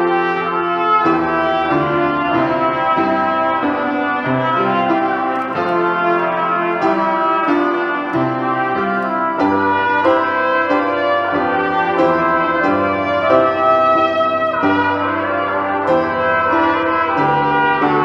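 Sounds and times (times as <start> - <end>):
sustained brass chords: 0.0 - 18.0.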